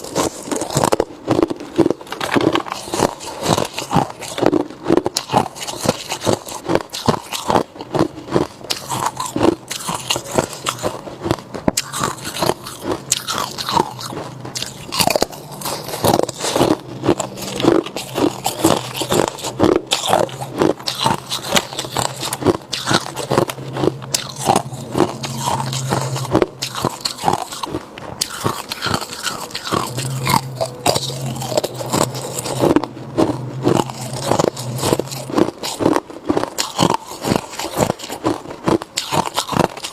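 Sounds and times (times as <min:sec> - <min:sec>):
faint low hum: 0:00.0 - 0:39.9
person crunching ice: 0:00.0 - 0:39.9.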